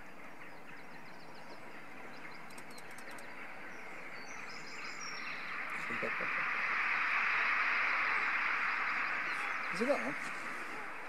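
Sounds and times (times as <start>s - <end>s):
starlings chirping: 0.0s - 11.0s
steady rushing hiss: 0.0s - 11.0s.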